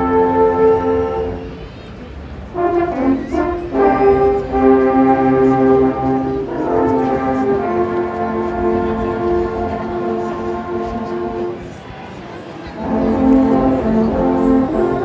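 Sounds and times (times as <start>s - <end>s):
alphorn long held notes: 0.0s - 12.0s, 12.7s - 15.0s.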